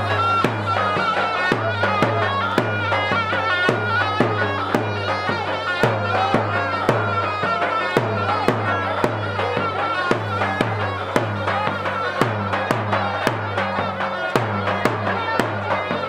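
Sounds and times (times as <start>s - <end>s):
drum beating: 0.0s - 16.0s
reed pipe melody: 0.0s - 16.0s.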